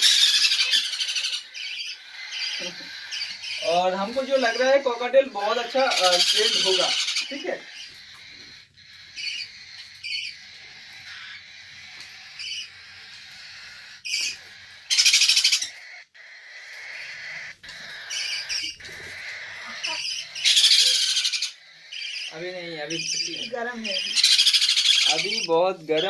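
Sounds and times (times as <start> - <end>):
loud raspy screeches: 0.0 - 26.0
parrot chicks chirping: 0.0 - 26.0.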